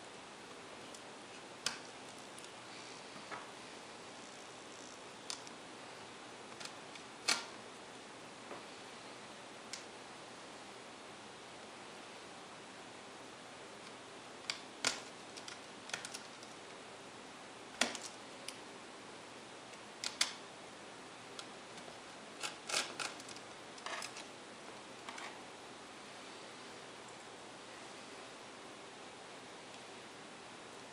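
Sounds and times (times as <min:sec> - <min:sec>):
faint steady hiss: 0:00.0 - 0:30.9.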